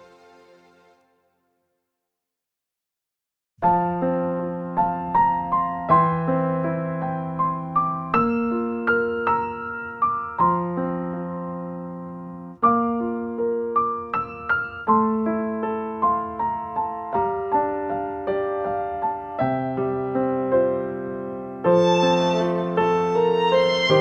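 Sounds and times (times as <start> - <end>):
gentle piano music: 0.0 - 1.2, 3.6 - 24.0.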